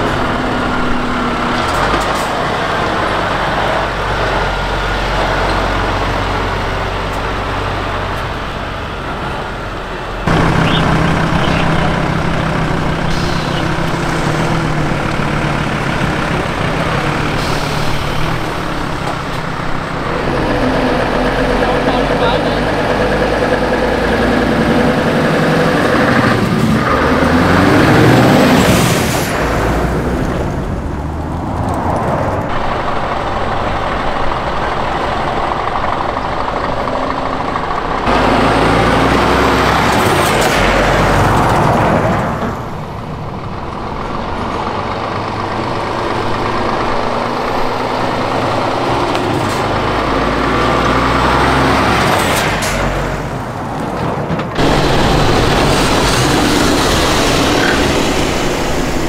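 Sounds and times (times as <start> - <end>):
diesel truck engines running: 0.0 - 59.0
tyres rumbling on road: 0.0 - 59.0.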